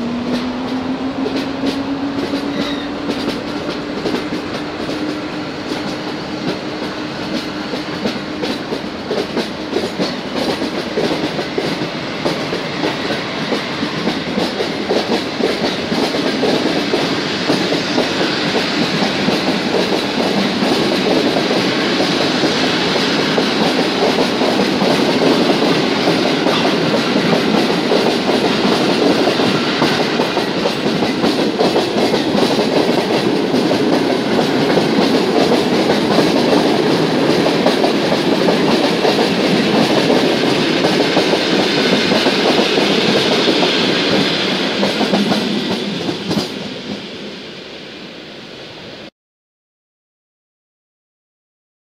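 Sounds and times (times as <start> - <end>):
train wheels rattling on track: 0.0 - 47.9.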